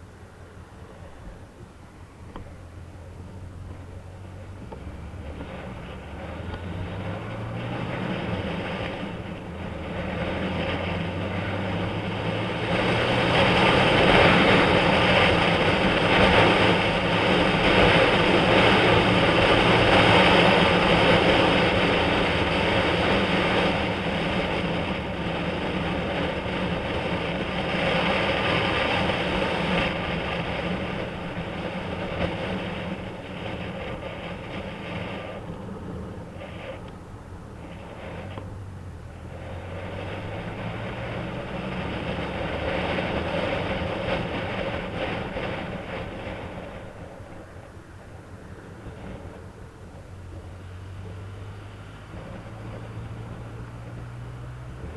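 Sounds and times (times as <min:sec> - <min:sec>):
rush of wind: 0:00.0 - 0:54.9
motorcycle engine revving: 0:02.3 - 0:47.7, 0:48.8 - 0:54.9.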